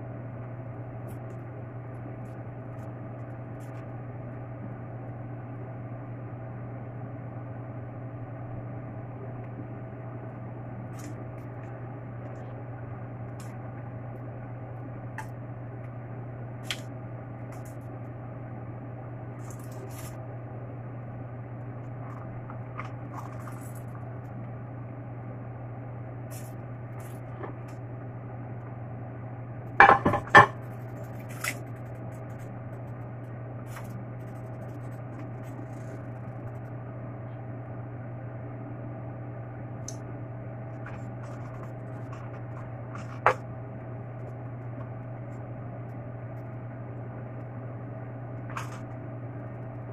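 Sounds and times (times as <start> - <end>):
low hum: 0.0 - 49.9.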